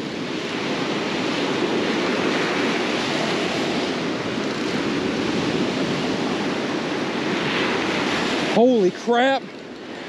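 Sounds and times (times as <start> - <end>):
surf breaking on sandy beach: 0.0 - 10.0.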